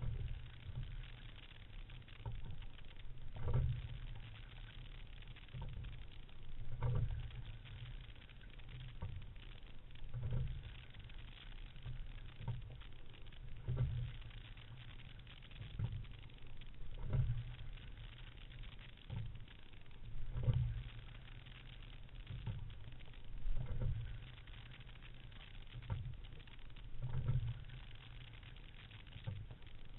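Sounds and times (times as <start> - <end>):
water and hull rumble: 0.0 - 29.9.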